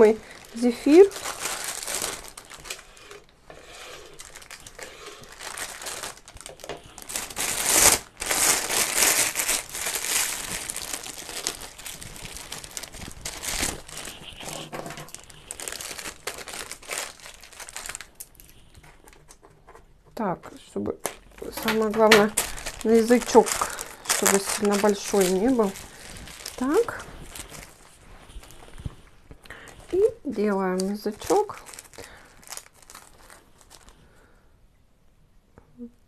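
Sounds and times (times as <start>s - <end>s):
crinkling of thin sheet material: 0.0s - 34.1s.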